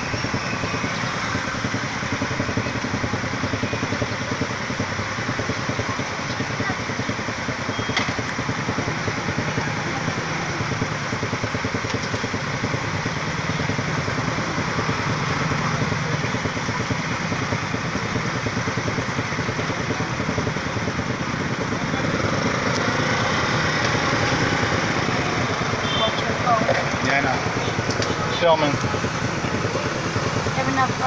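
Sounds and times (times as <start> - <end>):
motorcycle engine idling: 0.0 - 31.0
street traffic noise: 0.0 - 31.0.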